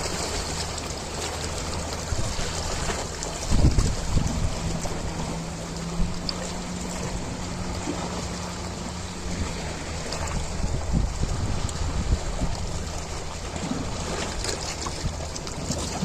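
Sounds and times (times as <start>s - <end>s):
ocean waves washing: 0.0s - 16.0s
steady low hum: 0.0s - 16.0s.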